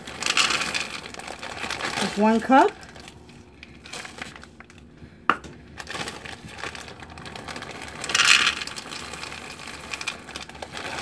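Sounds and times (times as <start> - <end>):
chocolate chips pouring: 0.0 - 4.4, 5.8 - 11.0
plastic bag crinkling: 0.0 - 5.0, 5.6 - 11.0.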